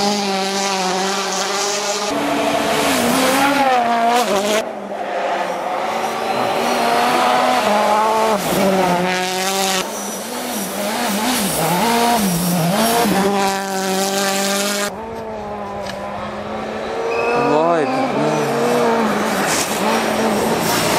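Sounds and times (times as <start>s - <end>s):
rally car engines revving hard: 0.0s - 20.9s.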